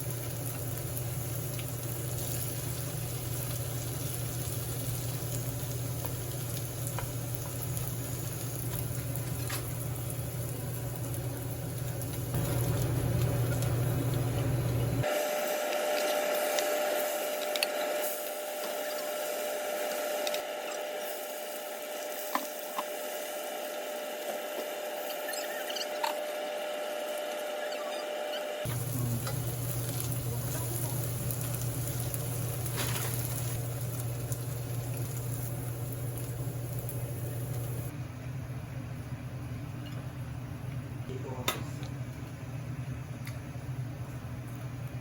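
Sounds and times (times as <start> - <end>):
food sizzling in oil: 0.0 - 37.9.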